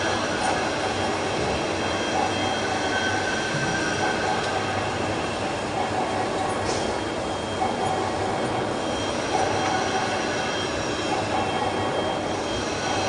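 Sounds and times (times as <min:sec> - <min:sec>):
metal lathe machining: 0:00.0 - 0:13.0.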